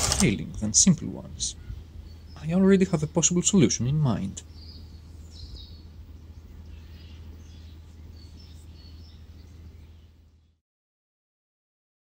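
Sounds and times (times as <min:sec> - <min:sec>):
steady low rumble: 0:00.0 - 0:10.4
small birds chirping: 0:00.2 - 0:10.6.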